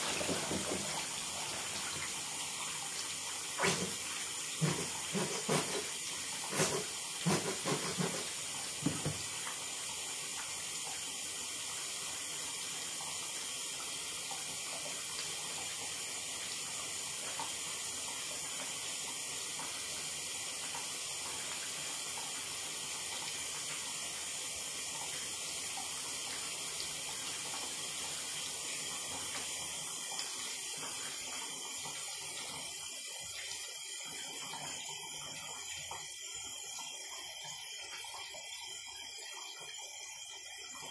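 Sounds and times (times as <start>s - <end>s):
water running into bathtub: 0.0s - 40.9s.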